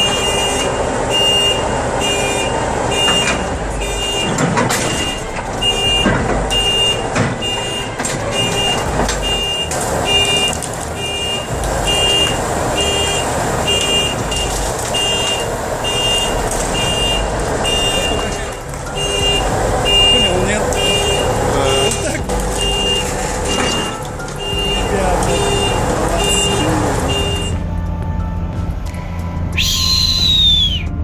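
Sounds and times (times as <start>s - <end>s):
diesel engine running: 0.0s - 31.0s
metallic clanks and squeals: 0.0s - 31.0s
reversing alarm beeping: 0.0s - 31.0s.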